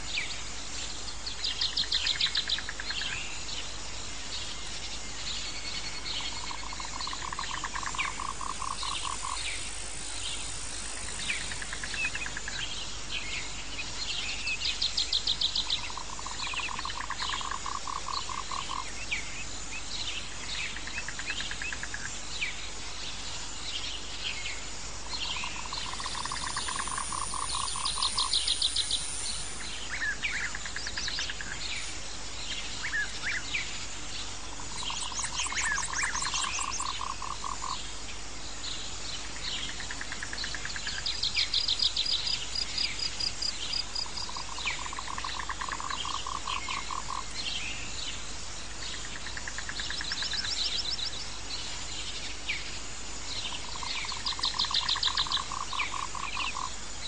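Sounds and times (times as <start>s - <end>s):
birds chirping: 0.0s - 37.9s, 38.6s - 56.7s
insect hiss: 0.0s - 57.0s
frogs calling: 1.1s - 22.6s, 25.0s - 38.1s, 39.2s - 57.0s.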